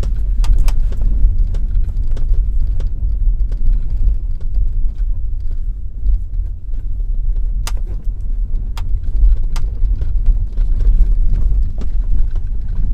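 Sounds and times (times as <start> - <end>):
low road rumble: 0.0 - 12.9.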